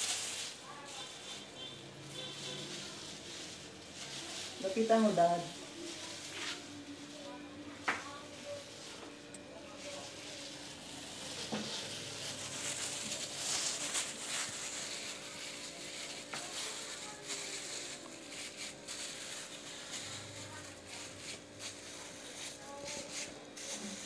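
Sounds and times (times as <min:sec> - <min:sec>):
plastic glove crinkling and squelching: 0:00.0 - 0:24.0.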